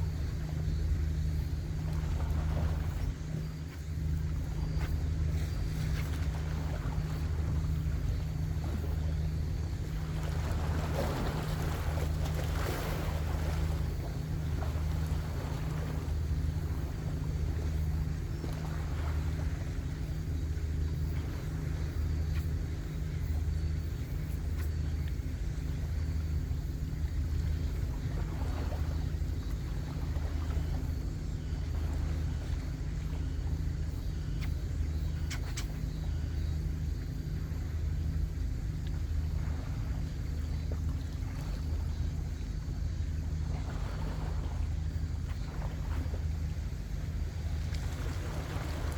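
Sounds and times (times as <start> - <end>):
boat engine throbbing: 0.0 - 48.9
light wind: 0.0 - 48.9
water noise: 0.0 - 48.9.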